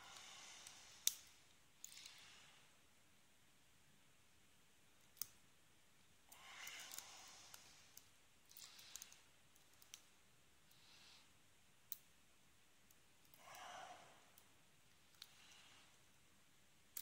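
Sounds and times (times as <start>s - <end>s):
soft hiss: 0.0s - 17.0s.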